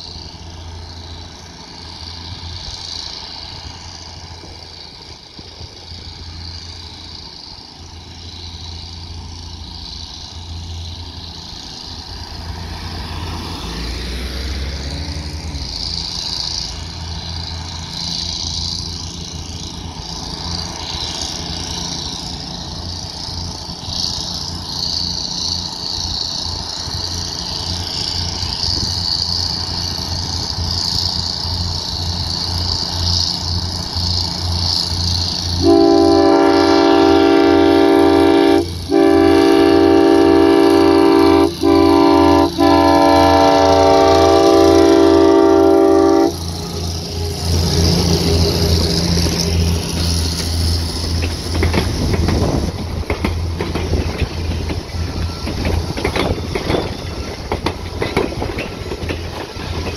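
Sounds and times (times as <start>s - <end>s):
high hiss: 0.0s - 59.9s
locomotive engine humming: 0.0s - 59.9s.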